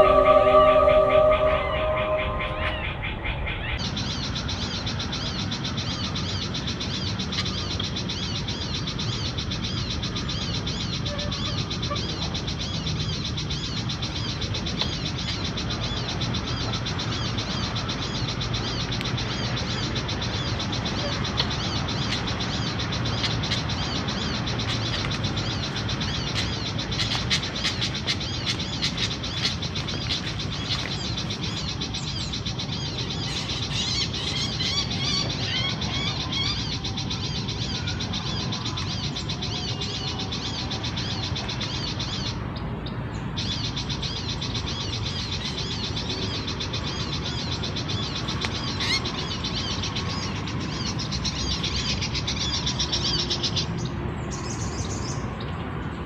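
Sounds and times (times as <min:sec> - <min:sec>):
bird chirping and twittering calls: 0:00.0 - 0:56.0.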